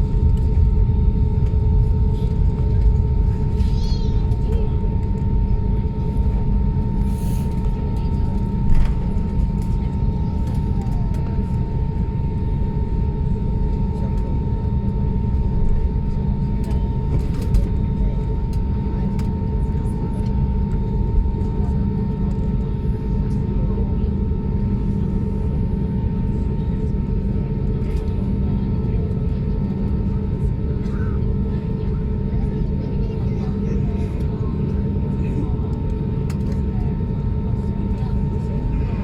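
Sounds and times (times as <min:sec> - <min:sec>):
engine and airflow rumble: 0:00.0 - 0:39.0.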